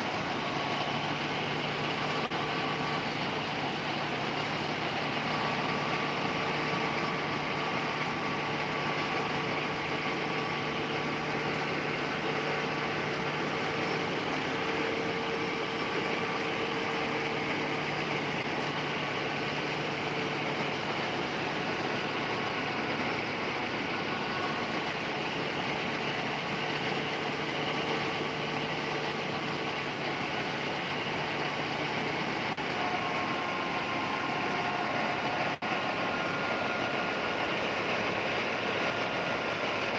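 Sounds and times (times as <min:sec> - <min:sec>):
thresher running: 0:00.0 - 0:39.9
tractor engine under load: 0:00.0 - 0:39.9.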